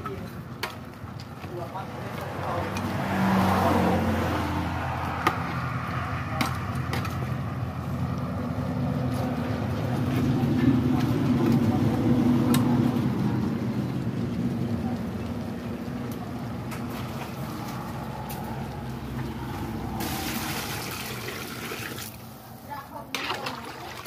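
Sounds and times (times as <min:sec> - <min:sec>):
low engine rumble: 0:00.0 - 0:23.2.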